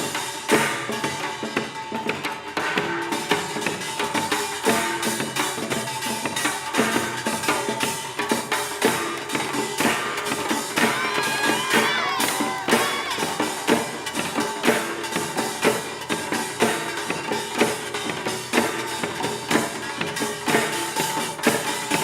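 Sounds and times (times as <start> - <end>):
drums struck in steady beat: 0.0 - 22.0.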